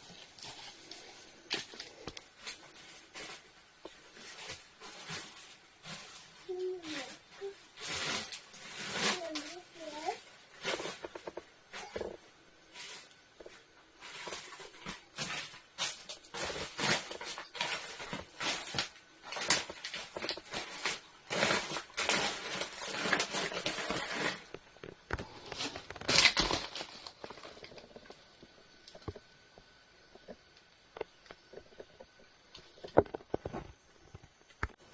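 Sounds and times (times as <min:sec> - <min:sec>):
rustling and crunching: 0:00.0 - 0:34.9.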